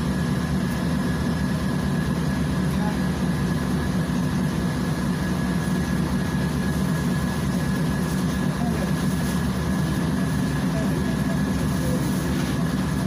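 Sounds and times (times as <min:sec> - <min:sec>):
bus engine idling hum: 0:00.0 - 0:13.0.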